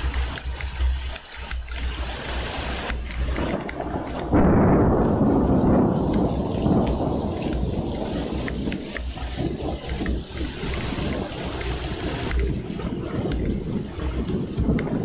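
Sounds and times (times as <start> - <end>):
raindrops ticking: 0.0 - 15.0
steady rain: 0.0 - 15.0
thunder rumble: 2.2 - 15.0.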